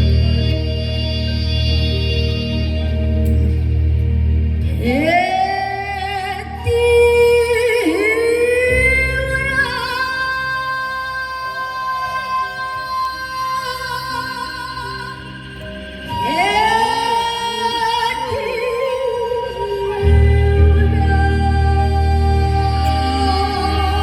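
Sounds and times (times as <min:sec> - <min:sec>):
woman singing with vibrato: 0:00.0 - 0:03.7, 0:04.7 - 0:24.0
recorded accompaniment with low bass: 0:00.0 - 0:24.0.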